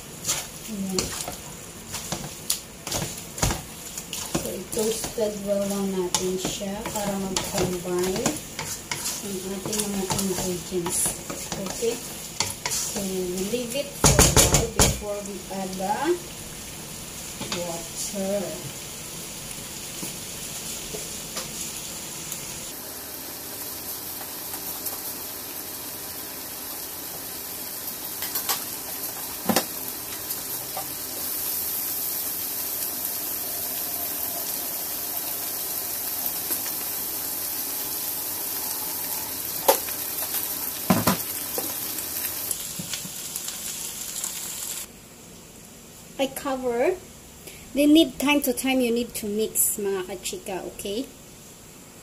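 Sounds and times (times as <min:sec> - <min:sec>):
frying hiss in a wok: 0:00.0 - 0:52.0.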